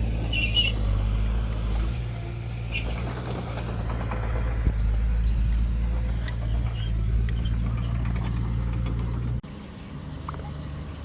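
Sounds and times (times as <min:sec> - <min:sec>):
heavy machine engine droning: 0:00.0 - 0:11.0.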